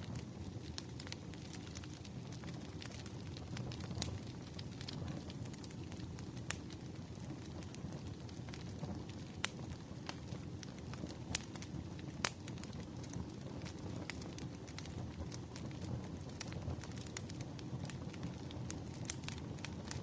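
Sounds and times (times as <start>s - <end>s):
fire pops and crackles: 0.0s - 20.0s
firewood burning with crackles: 0.0s - 20.0s.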